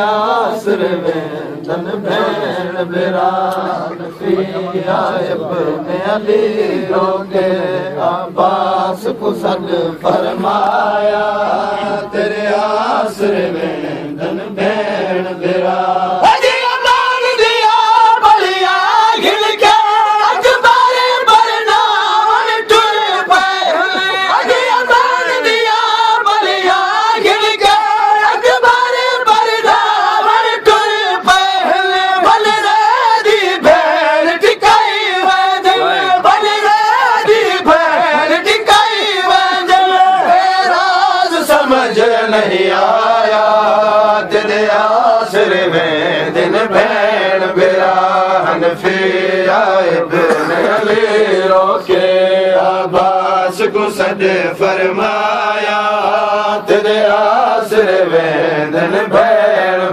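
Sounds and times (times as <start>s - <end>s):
men chanting in chorus: 0.0s - 59.9s.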